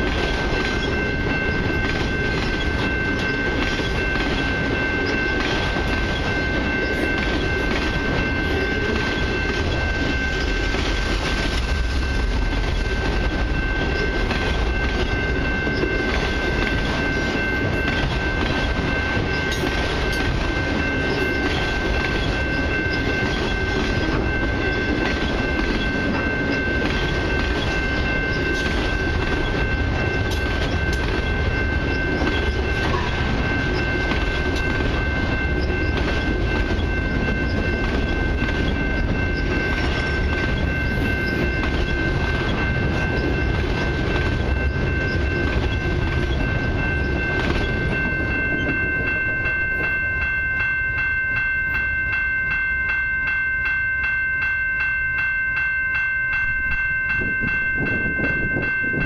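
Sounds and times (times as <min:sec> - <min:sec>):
freight train wheels on rails: 0:00.0 - 0:59.0
level crossing bell ringing: 0:00.0 - 0:59.0.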